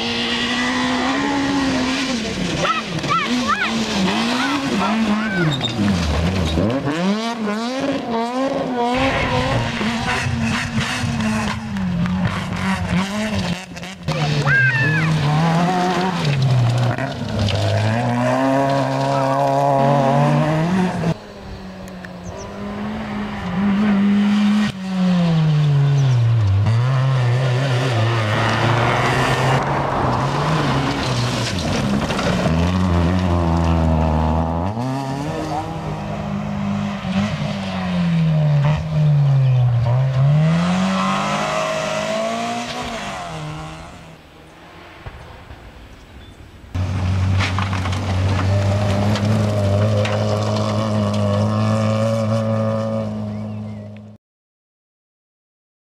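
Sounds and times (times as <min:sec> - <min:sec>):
rally car engines revving: 0:00.0 - 0:45.3, 0:46.7 - 0:54.2.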